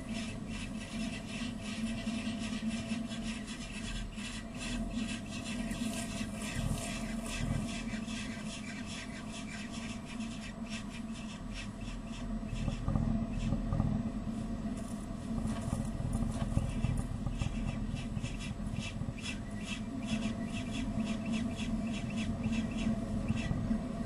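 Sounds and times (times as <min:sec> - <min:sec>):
low microphone hum: 0:00.0 - 0:24.0.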